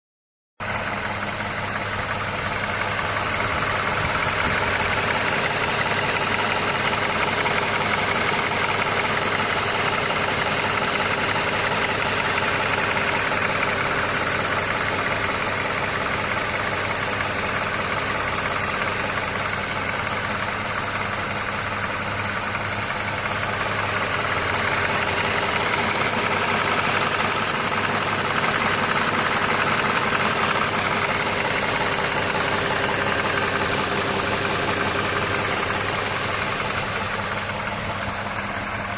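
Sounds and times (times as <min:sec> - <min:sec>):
car engine idling: 0:00.6 - 0:38.9.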